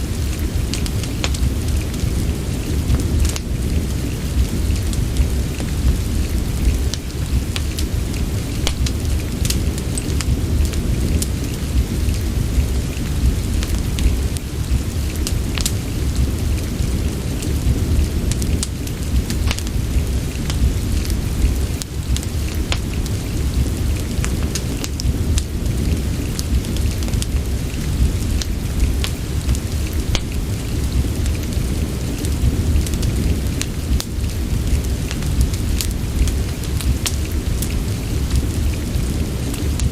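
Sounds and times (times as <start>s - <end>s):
steady rain: 0.0s - 39.9s
wood fire crackling and popping: 0.0s - 39.9s.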